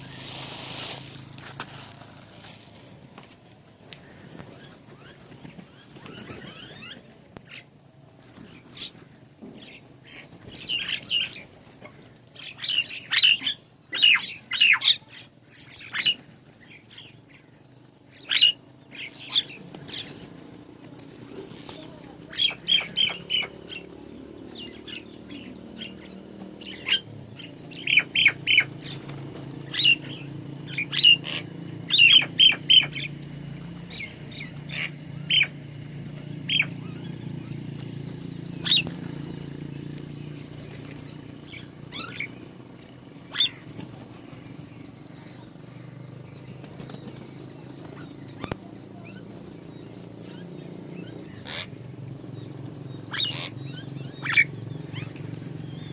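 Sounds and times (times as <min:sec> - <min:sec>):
small birds chirping: 0:00.0 - 0:55.9
steady low hum: 0:00.0 - 0:55.9.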